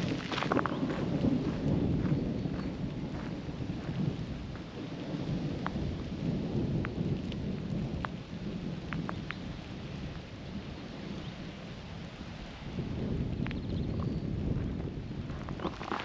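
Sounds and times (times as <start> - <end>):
raindrops ticking: 0.0 - 11.2, 13.3 - 16.0
light rain: 0.0 - 16.0
thunder rumbling: 0.0 - 16.0.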